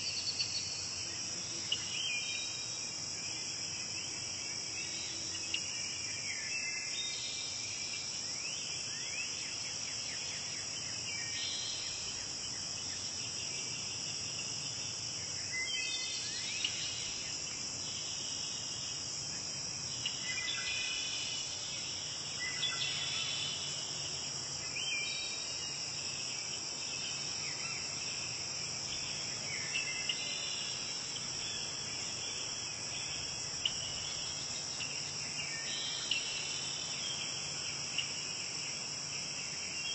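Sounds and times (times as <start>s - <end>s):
crickets and insects trilling: 0.0s - 39.9s.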